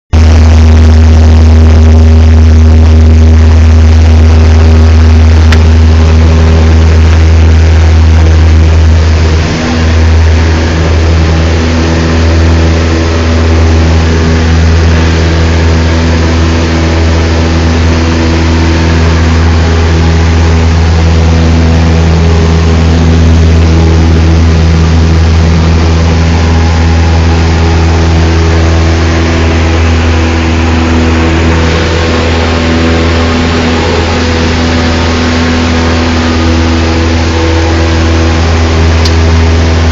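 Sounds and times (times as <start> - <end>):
light aircraft engine droning: 2.6 - 39.9.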